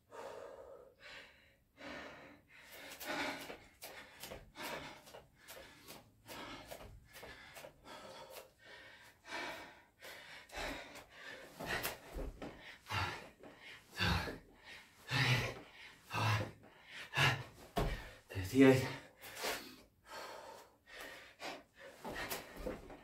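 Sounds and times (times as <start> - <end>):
man breathing hard: 0.0 - 23.0.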